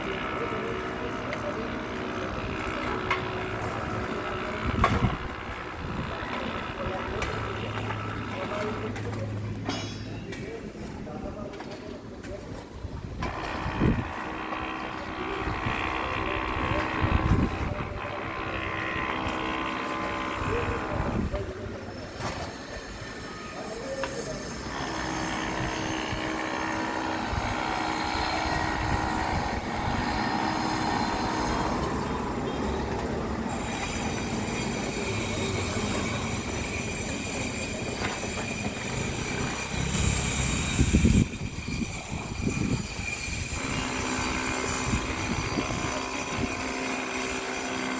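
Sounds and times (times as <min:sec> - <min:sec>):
construction machinery rattling: 0:00.0 - 0:47.9.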